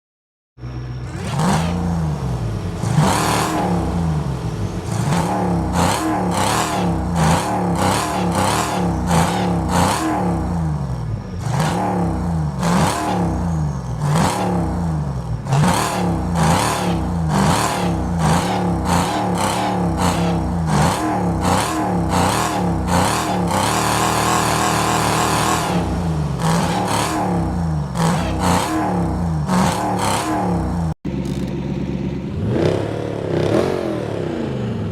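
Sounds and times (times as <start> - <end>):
supercharged engine revving: 1.0 - 34.9.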